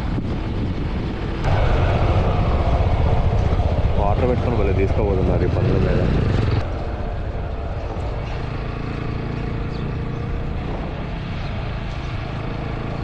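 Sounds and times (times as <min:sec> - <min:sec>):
motorcycle engine running: 0:00.0 - 0:13.0
wind noise: 0:00.0 - 0:13.0.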